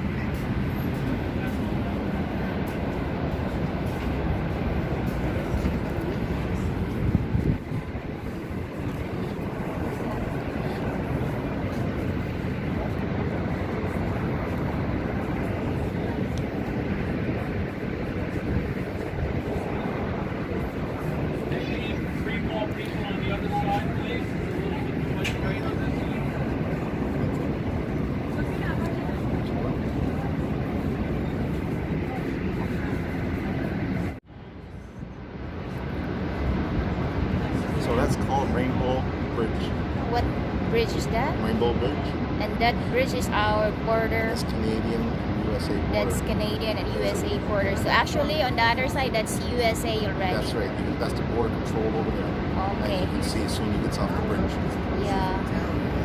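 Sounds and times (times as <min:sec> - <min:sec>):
outdoor rushing noise: 0:00.0 - 0:56.0
wind buffeting microphone: 0:00.0 - 0:56.0.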